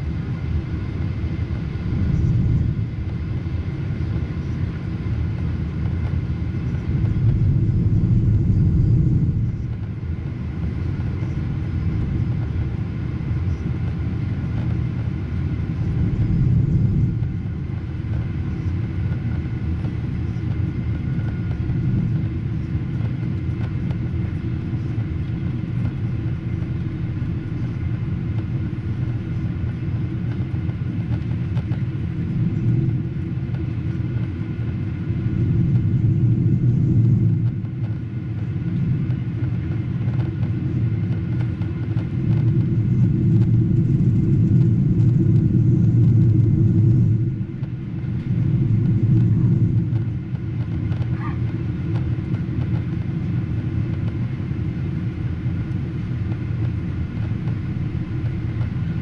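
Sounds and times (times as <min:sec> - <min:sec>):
airplane cabin engine rumble: 0:00.0 - 0:59.0
faint steady whine: 0:00.0 - 0:59.0.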